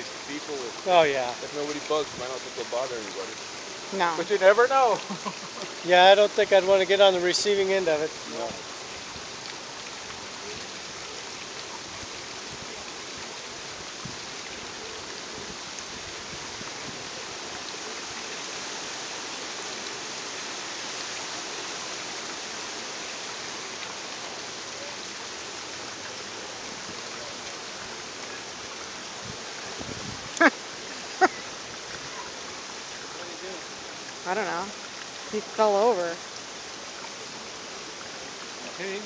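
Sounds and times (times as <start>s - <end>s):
steady rushing hiss: 0.0s - 39.0s.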